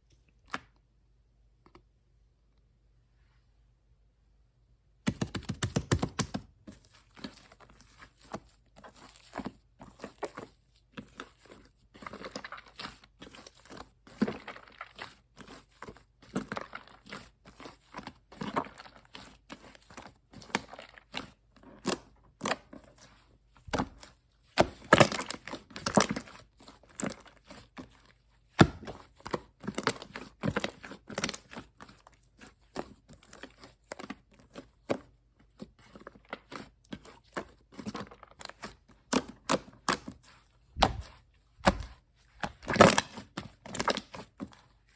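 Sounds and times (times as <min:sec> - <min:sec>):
hands squishing slime: 0:05.1 - 0:44.9.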